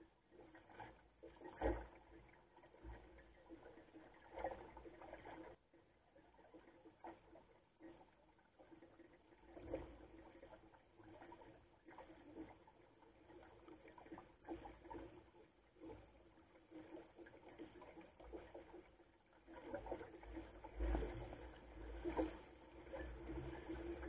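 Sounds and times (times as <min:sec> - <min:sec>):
water splashing against boat hull: 0:00.2 - 0:24.0.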